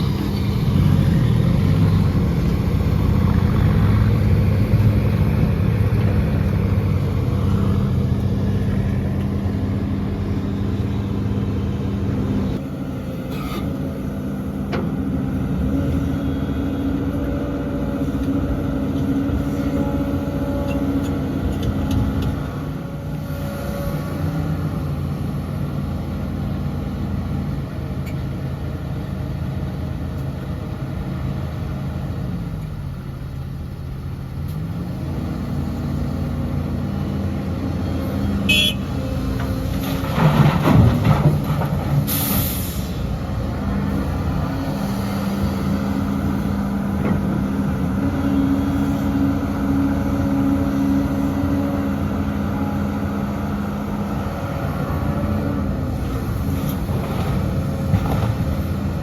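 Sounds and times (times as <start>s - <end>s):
heavy diesel machinery engine: 0.0s - 59.0s.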